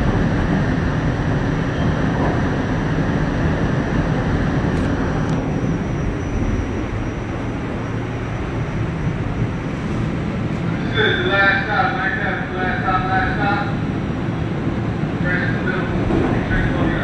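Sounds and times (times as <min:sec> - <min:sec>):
subway train rumble on track: 0:00.0 - 0:17.0.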